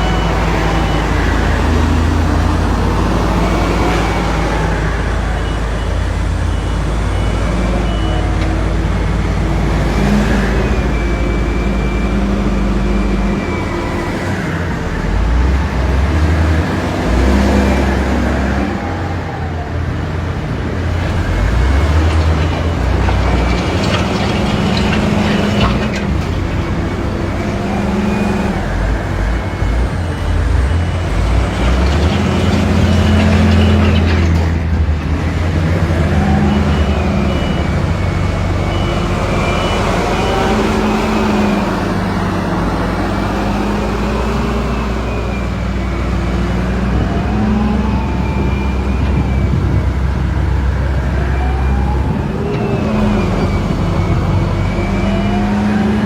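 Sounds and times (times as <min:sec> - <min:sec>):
diesel machinery engines revving: 0:00.0 - 0:56.0.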